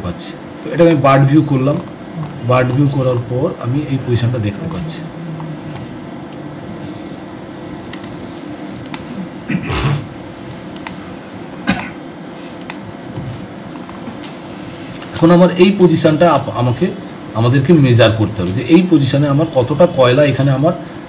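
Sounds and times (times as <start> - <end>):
fan hum: 0.0 - 21.0.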